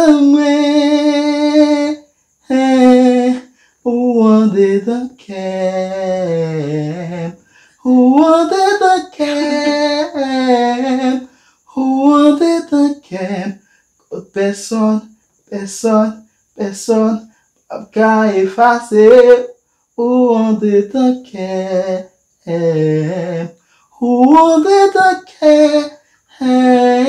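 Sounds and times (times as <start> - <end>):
person singing unaccompanied: 0.0 - 27.0.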